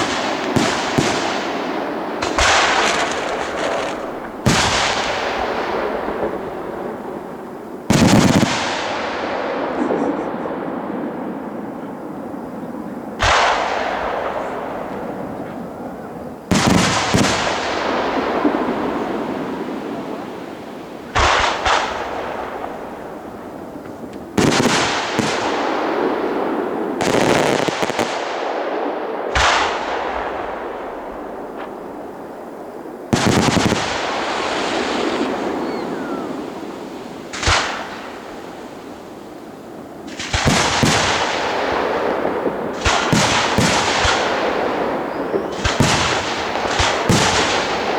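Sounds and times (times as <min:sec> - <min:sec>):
crackle and echo: 0:00.0 - 0:47.9
fireworks bursting with bangs: 0:00.0 - 0:47.9.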